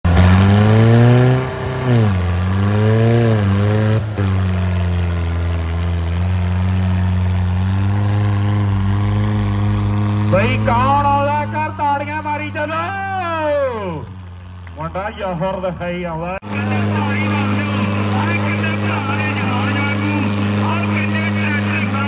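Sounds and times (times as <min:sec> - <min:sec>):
tractor engine revving: 0:00.0 - 0:22.0.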